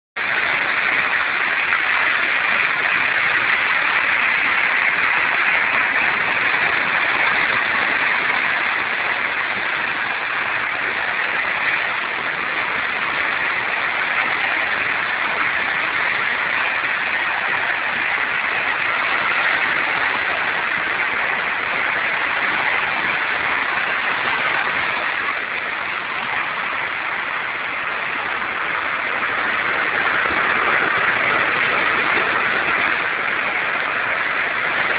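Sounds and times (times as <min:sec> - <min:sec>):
surf washing over rocks: 0:00.2 - 0:34.9.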